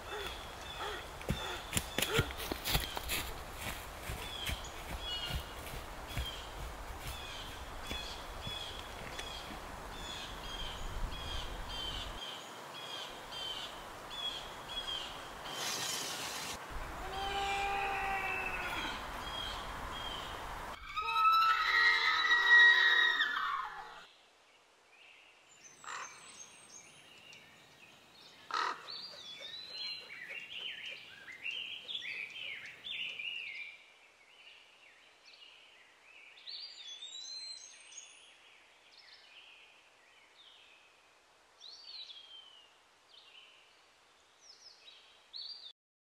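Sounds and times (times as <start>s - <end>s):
songbirds chirping: 0.0s - 16.6s, 18.3s - 20.9s, 23.2s - 45.7s.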